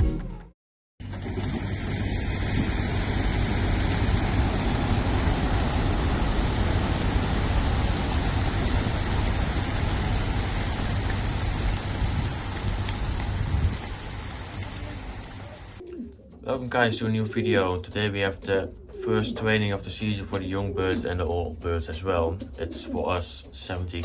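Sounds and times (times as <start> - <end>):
deep rumble: 1.0 - 22.6
flock of pigeon wings beating: 1.0 - 24.0.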